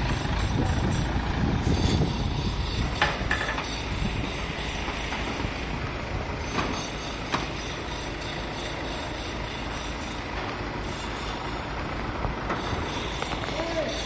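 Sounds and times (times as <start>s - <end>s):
crane engine rumbling: 0.0s - 14.0s.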